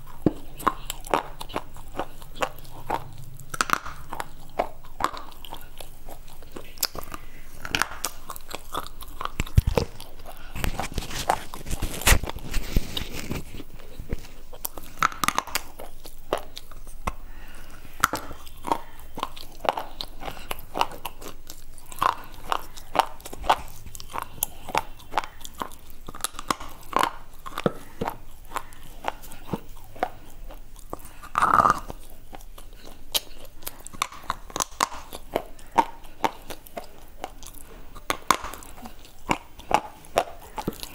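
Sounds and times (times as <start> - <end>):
crunching and chewing: 0.0 - 40.9.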